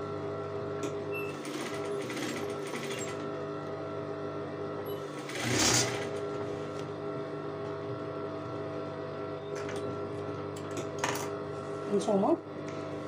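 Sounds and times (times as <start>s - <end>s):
sewing machine motor hum: 0.0s - 13.0s.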